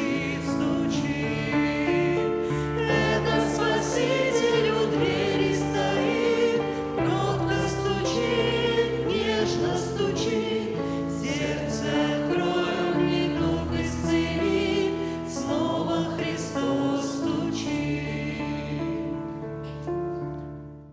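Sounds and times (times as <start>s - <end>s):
voices singing a hymn: 0.0s - 19.9s.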